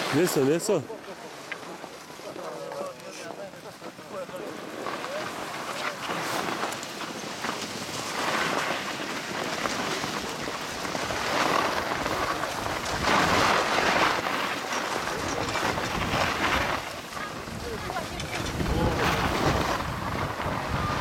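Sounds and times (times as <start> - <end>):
skis scraping over snow: 0.0 - 21.0.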